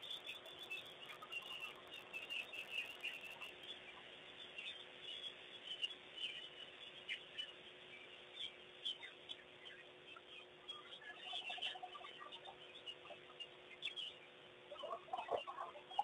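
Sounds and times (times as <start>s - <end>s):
faint steady hum: 0.0s - 16.0s
small birds chirping: 0.0s - 16.0s.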